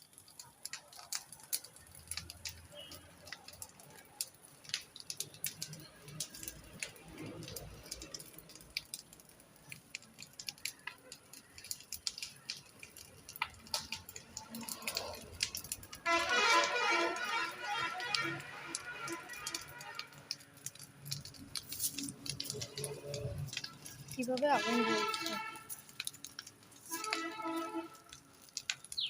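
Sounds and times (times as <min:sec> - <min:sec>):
fire crackling: 0:00.0 - 0:29.0.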